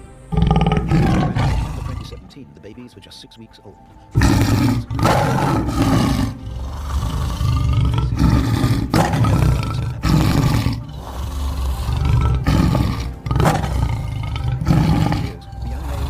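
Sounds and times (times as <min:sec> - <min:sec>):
big cat roaring: 0:00.3 - 0:02.3, 0:04.2 - 0:16.0.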